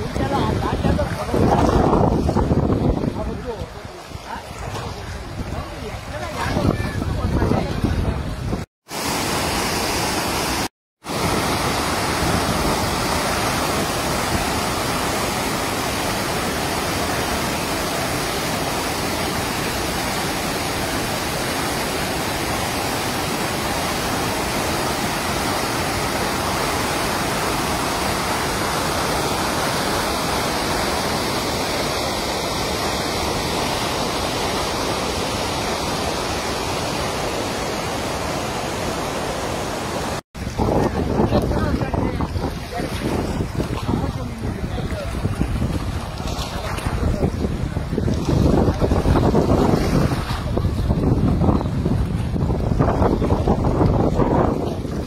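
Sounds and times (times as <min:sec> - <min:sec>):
water rushing and churning: 0:00.0 - 0:55.0.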